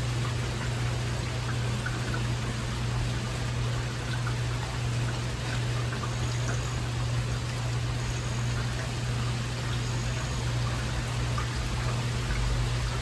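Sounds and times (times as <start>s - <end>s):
small drips: 0.0s - 13.0s.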